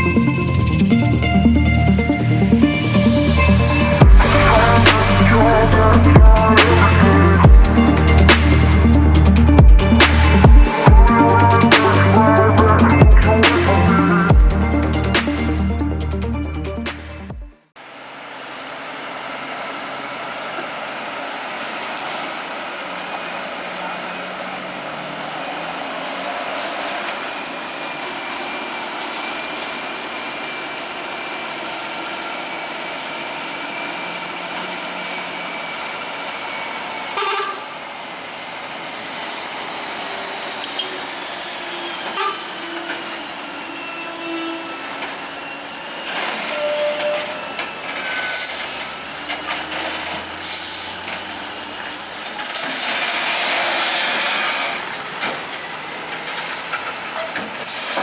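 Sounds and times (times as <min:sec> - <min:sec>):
road noise: 0:00.0 - 0:58.0
truck diesel engines: 0:00.0 - 0:58.0.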